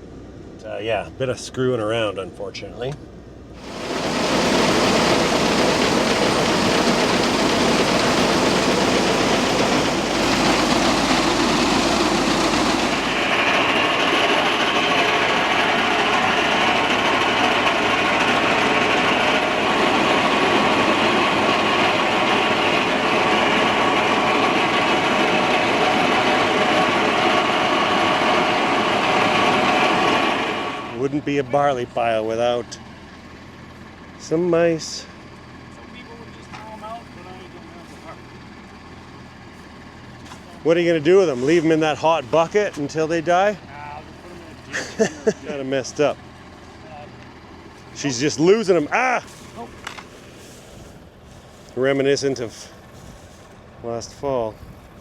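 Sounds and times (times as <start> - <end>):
high steady machine whine: 3.5 - 55.0
farm machinery rumbling and clattering: 3.6 - 55.0.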